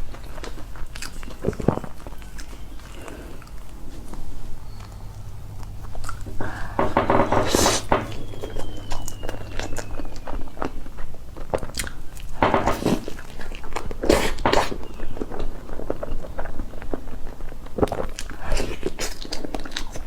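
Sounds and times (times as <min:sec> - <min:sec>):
biting and chewing cake: 0:00.0 - 0:06.8, 0:09.2 - 0:20.0.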